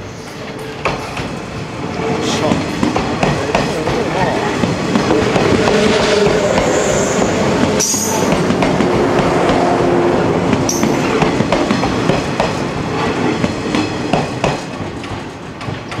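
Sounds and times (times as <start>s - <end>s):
train wheels clacking over rail joints: 0.3s - 1.4s, 2.4s - 6.8s, 7.6s - 9.8s, 10.5s - 16.0s.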